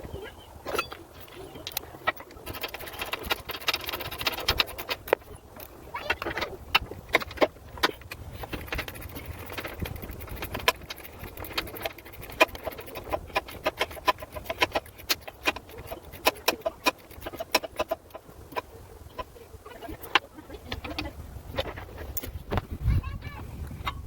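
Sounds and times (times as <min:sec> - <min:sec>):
metal hand tools clicking: 0:00.7 - 0:21.1.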